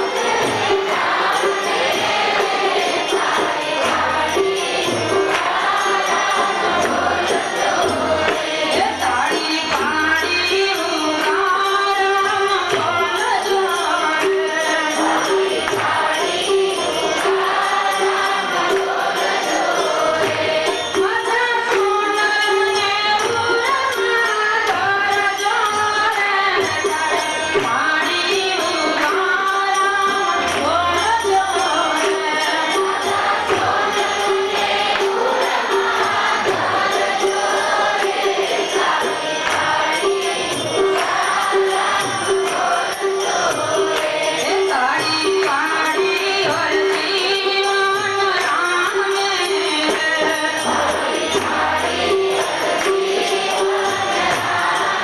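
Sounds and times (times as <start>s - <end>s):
jingling percussion: 0.0s - 55.0s
person singing devotional song: 0.0s - 55.0s.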